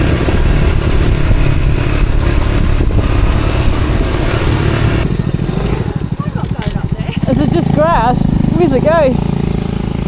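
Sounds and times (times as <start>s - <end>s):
steady rushing noise: 0.0s - 9.2s
motorbike engine running: 0.0s - 10.0s.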